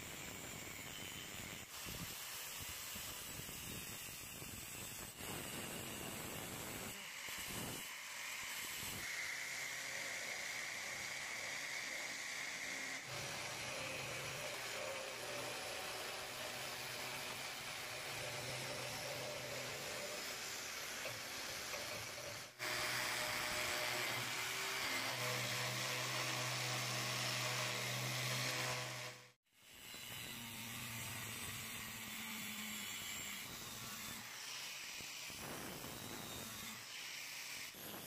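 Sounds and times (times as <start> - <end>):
electric drill sanding metal: 0.0 - 38.0.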